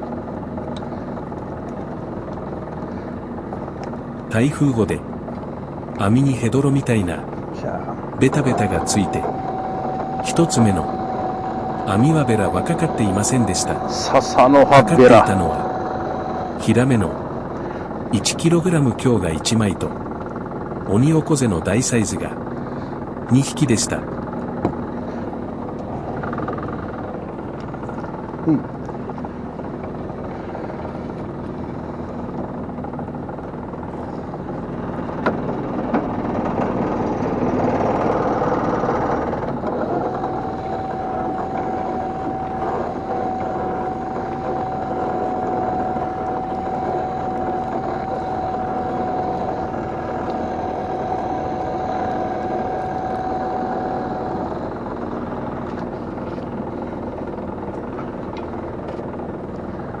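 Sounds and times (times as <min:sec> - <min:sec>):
boat engine running: 0:00.0 - 1:00.0
steady high whine: 0:00.0 - 1:00.0.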